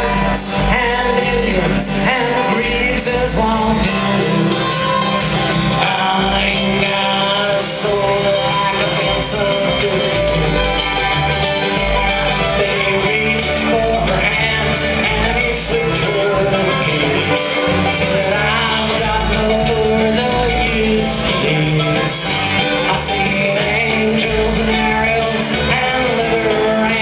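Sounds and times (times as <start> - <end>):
bluegrass string band playing: 0.0 - 27.0.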